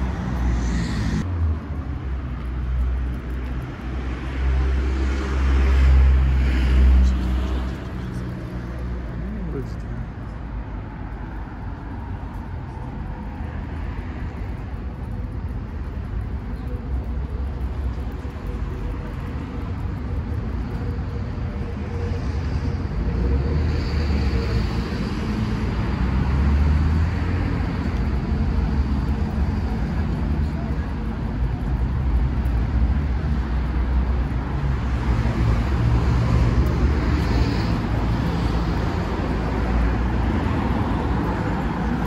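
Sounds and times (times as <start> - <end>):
road traffic: 0.0 - 42.0
vehicles passing close: 0.0 - 42.0.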